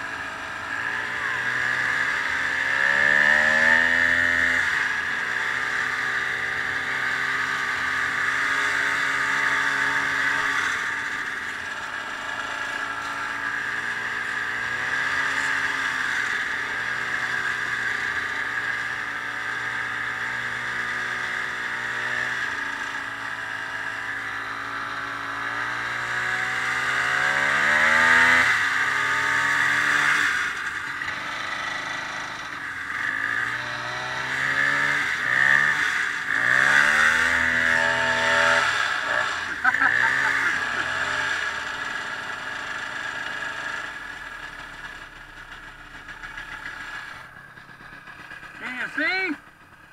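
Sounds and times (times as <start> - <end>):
snowmobile engine revving: 0.0 - 49.5.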